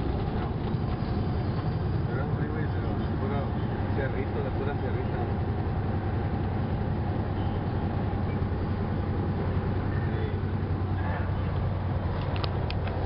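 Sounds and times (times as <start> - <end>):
truck engine and tyre drone: 0.0 - 13.0.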